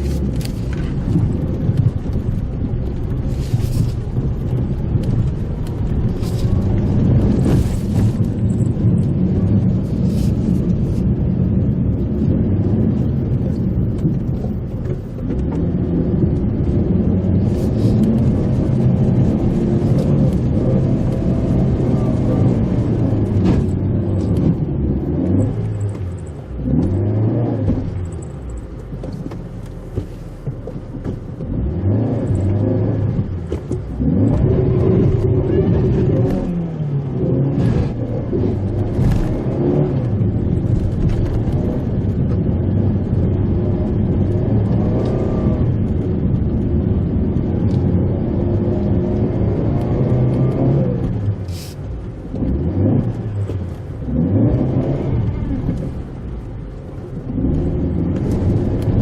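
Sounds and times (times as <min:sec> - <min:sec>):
car engine revving: 0:00.0 - 0:29.0, 0:31.0 - 0:59.0.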